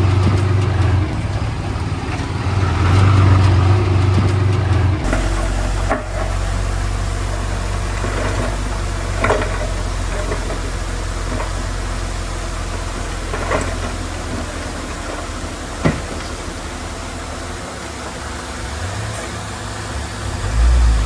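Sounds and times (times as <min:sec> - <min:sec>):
heavy diesel engine droning: 0:00.0 - 0:21.0.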